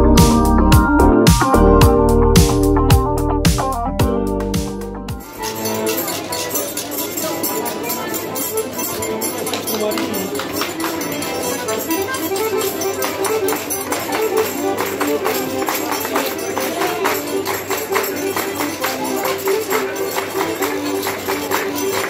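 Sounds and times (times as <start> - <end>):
tambourine beat: 0.0 - 9.3, 10.6 - 22.0
accordion playing lively melody: 0.0 - 22.0.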